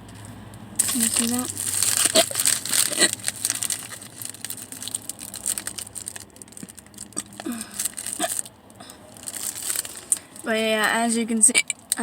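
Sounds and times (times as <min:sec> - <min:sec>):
food packaging rustling: 0:00.8 - 0:10.5.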